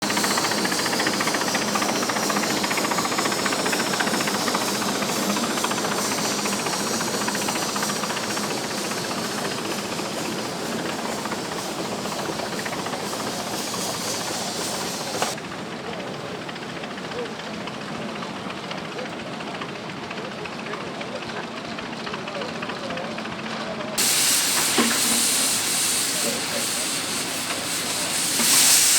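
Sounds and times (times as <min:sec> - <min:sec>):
sawmill machinery running: 0:00.0 - 0:28.9.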